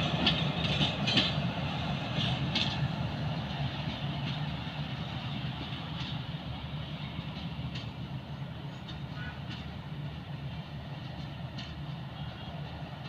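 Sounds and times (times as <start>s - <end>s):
train rumbling along track: 0.0s - 13.0s
train wheels clicking: 0.0s - 13.0s.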